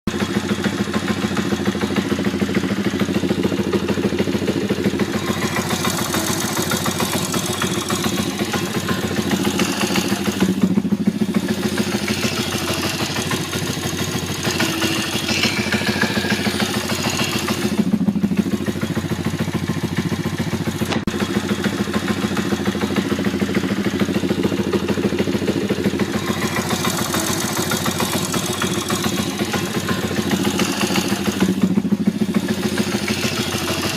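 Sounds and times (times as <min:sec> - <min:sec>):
engine knocking: 0:00.1 - 0:33.9
motorbike engine idling: 0:00.1 - 0:33.9.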